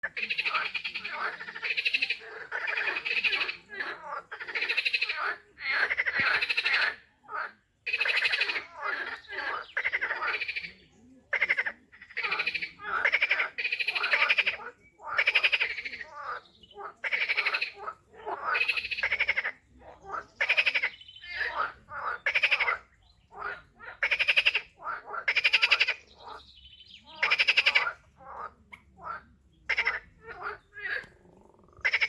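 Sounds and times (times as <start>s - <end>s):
frogs calling in rattling trills: 0.0s - 32.0s.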